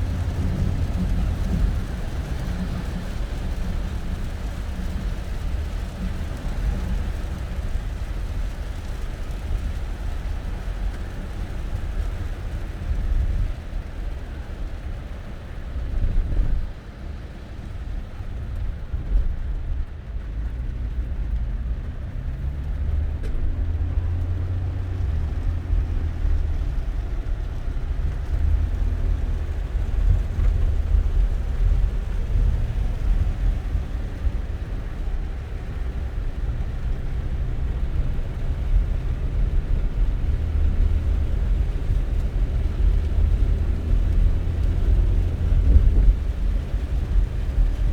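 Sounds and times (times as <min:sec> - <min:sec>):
car road and engine rumble: 0:00.0 - 0:47.9.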